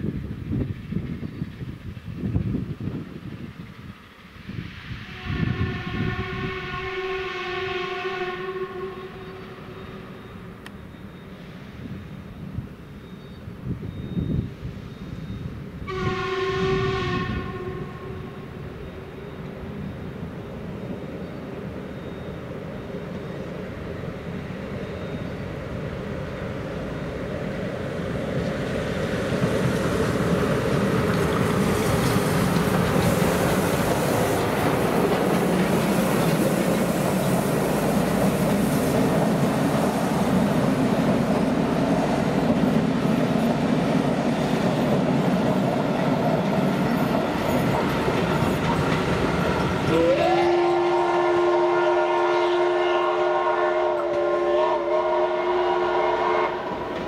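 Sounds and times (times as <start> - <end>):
steam locomotive passing slowly: 0.0 - 57.0
train wheels rolling over rails: 9.1 - 52.4, 53.0 - 57.0.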